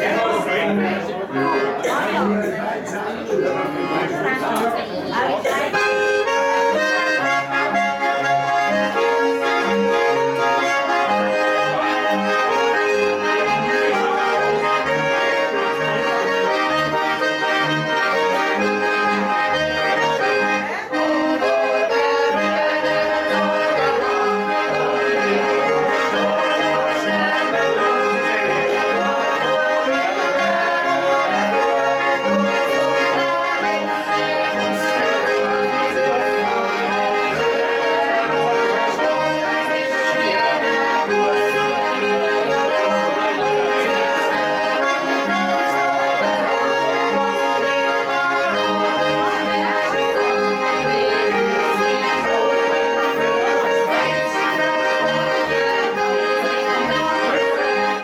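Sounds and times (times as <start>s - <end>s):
accordion folk melody: 0.0s - 58.0s.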